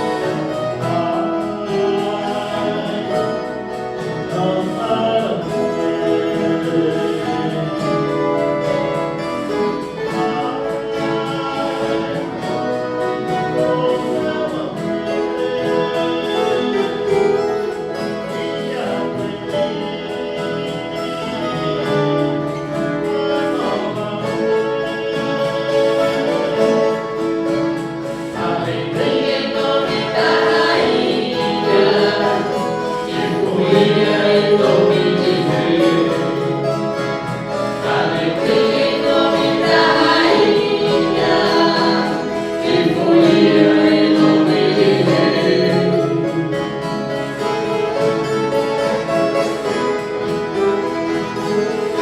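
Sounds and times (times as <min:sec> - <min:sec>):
violas playing: 0:00.0 - 0:04.8, 0:05.6 - 0:52.0
group singing in harmony: 0:00.0 - 0:52.0.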